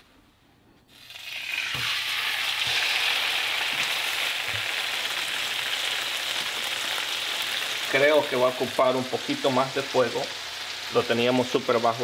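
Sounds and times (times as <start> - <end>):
fish sizzling in oil: 0.9 - 12.0.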